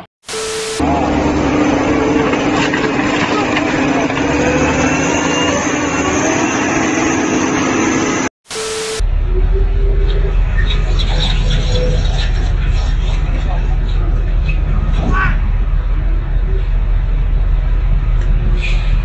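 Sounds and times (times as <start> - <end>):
diesel truck engine running hard: 0.8 - 8.3, 9.0 - 19.0.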